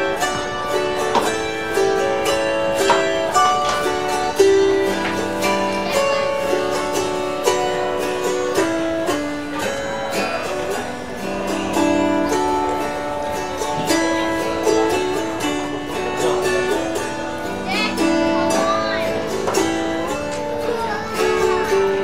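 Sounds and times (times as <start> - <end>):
autoharp melody: 0.0 - 22.0.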